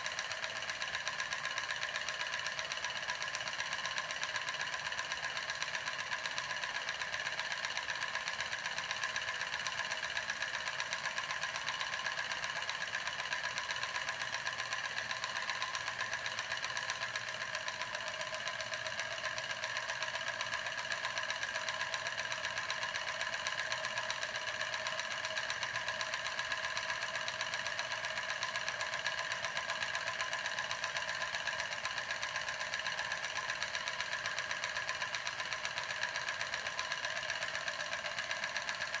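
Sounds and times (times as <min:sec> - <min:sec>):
small steam engine clattering: 0:00.0 - 0:39.0.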